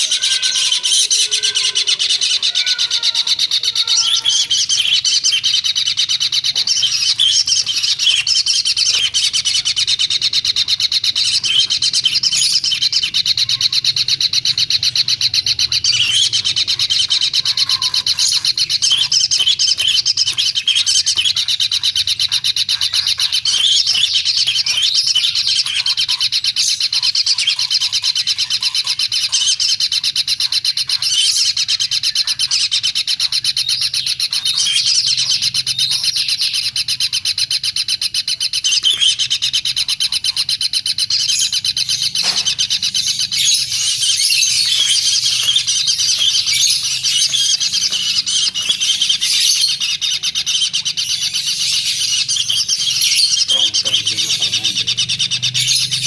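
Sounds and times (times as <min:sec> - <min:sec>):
nestling begging calls: 0:00.0 - 0:56.0.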